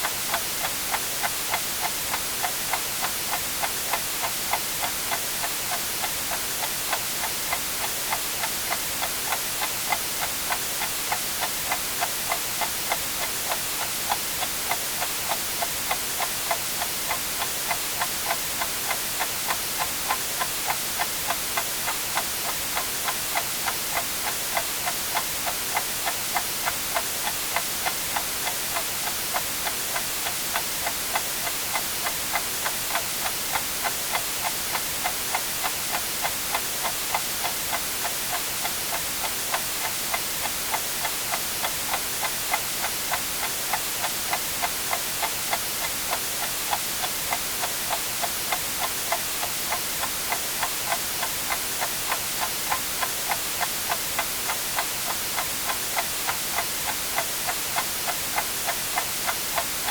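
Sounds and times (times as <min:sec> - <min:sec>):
clock ticking: 0:00.0 - 0:59.9
white noise hiss: 0:00.0 - 0:59.9.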